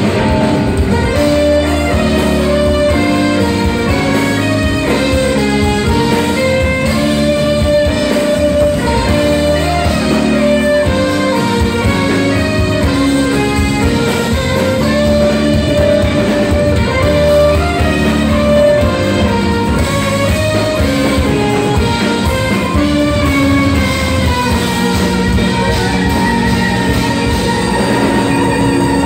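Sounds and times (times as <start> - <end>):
live jazz band playing: 0.0 - 29.0.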